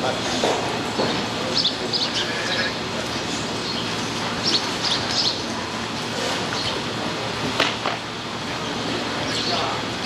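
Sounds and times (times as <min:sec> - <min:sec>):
indoor arena background noise: 0:00.0 - 0:10.0.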